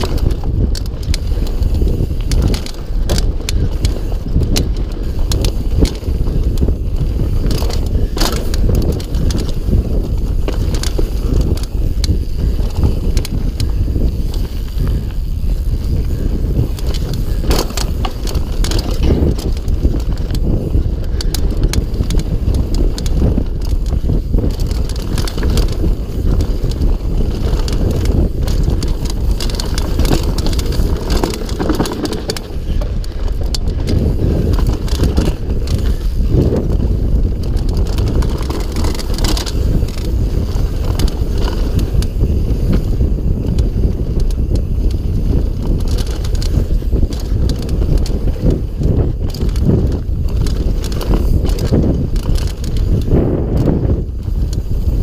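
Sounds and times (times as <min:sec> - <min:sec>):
bike chain and frame rattling: 0:00.0 - 0:55.0
wind and tyres rumbling on dirt: 0:00.0 - 0:55.0.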